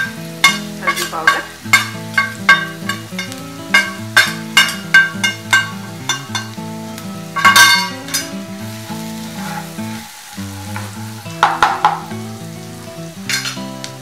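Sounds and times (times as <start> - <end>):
spatula scraping frying pan: 0.0 - 6.6, 7.2 - 13.7
soft background music: 0.0 - 14.0
spices sizzling in hot oil: 0.0 - 14.0.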